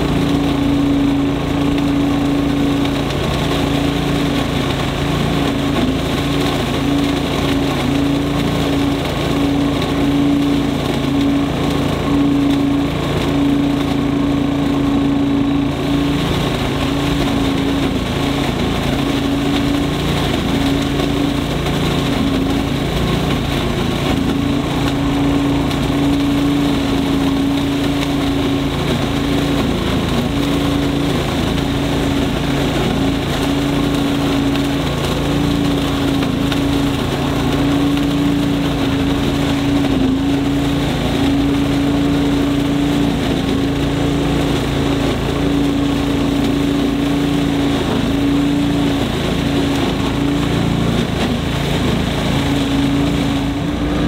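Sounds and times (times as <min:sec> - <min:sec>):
leaf vacuum engine running: 0:00.0 - 0:54.0.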